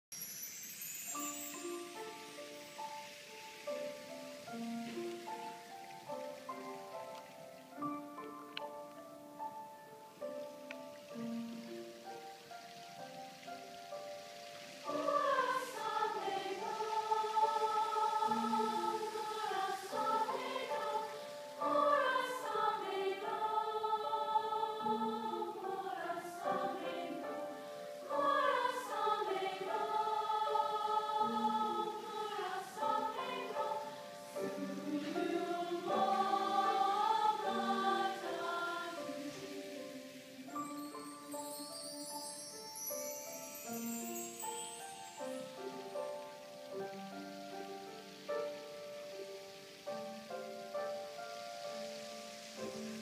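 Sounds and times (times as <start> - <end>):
grand piano accompaniment: 0.1 - 53.0
choir singing long held notes: 0.2 - 53.0.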